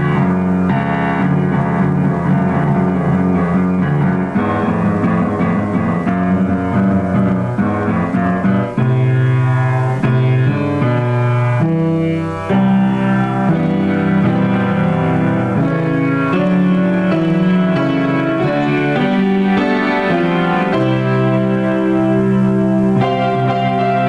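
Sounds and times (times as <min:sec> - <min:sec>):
grand piano chords: 0:00.0 - 0:24.0.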